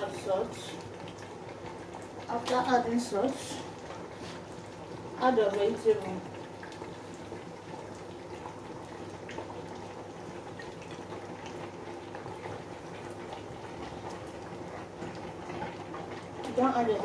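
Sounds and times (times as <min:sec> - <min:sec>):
soup bubbling: 0:00.0 - 0:17.0.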